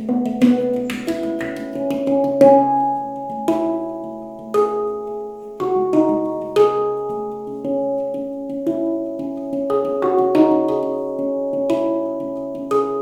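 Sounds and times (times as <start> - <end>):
handpan notes ringing: 0.0 - 13.0.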